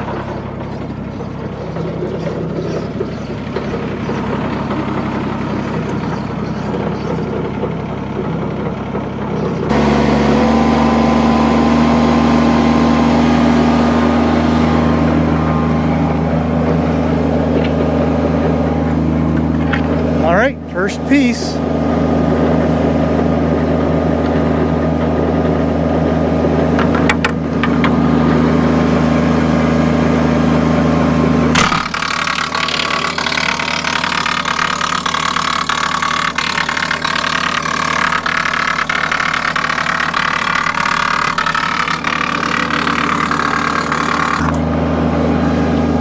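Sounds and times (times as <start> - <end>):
wood chipper crackling clatter: 0.0 - 20.3, 22.3 - 46.0
tractor diesel engine drone: 0.0 - 46.0.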